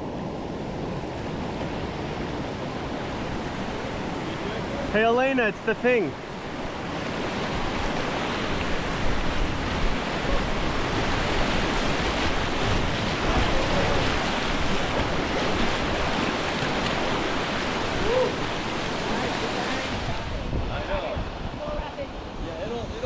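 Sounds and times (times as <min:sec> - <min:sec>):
whitewater rushing: 0:00.0 - 0:23.0.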